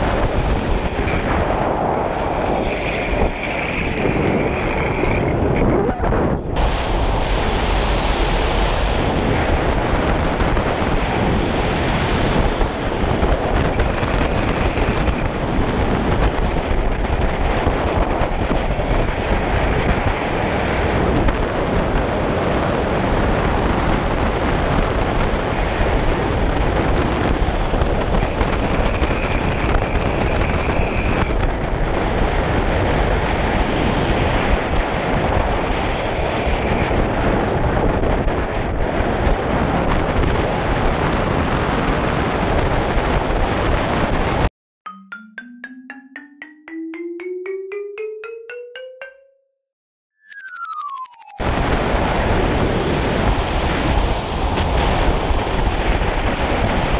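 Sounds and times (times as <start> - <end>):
wind buffeting microphone: 0.0 - 44.5, 51.4 - 56.9.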